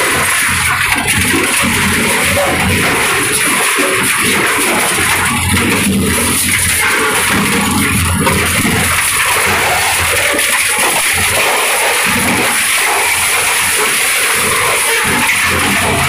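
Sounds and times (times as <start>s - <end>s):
shredder grinding metal: 0.0s - 16.0s.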